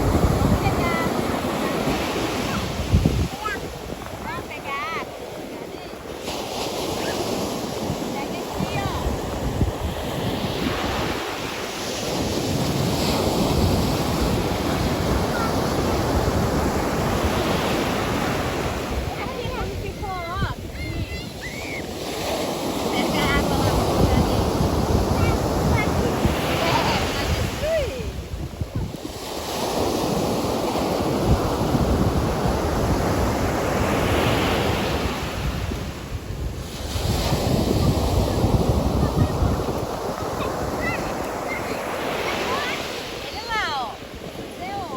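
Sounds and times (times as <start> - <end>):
ocean waves breaking on beach: 0.0 - 44.9
wind buffeting microphone: 0.0 - 44.9.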